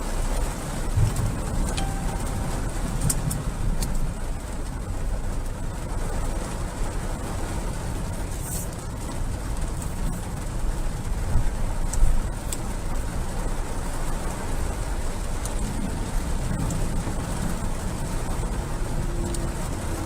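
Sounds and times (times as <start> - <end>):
wind and rain rumble: 0.0 - 20.0.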